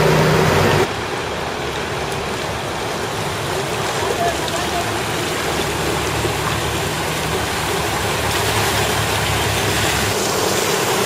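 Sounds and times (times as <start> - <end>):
vehicle engine running: 0.0 - 11.0
water splashing around wheels: 0.0 - 11.0.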